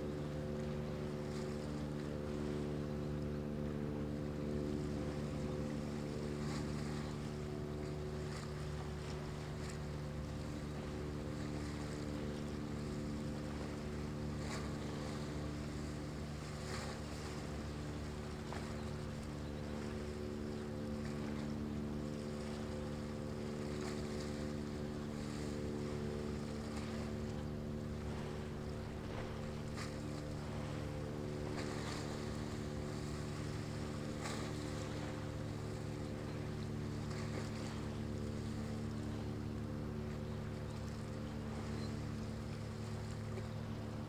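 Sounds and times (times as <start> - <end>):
ship diesel engine droning: 0.0 - 44.0
waves washing: 0.0 - 44.0
wind: 0.0 - 44.0.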